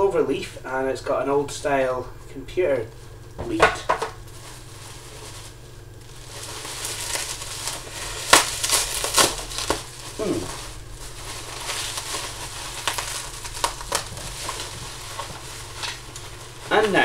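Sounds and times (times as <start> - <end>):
bubble wrap crinkling and crackling: 2.8 - 17.0.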